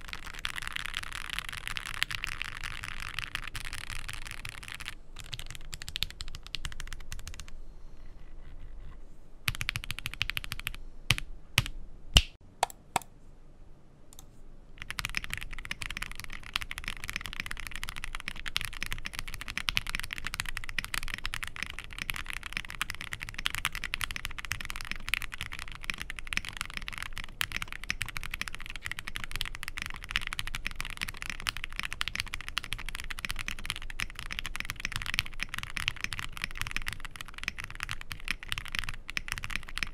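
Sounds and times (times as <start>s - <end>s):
mechanical keyboard typing: 0.0s - 7.6s, 9.5s - 11.7s, 14.8s - 39.9s.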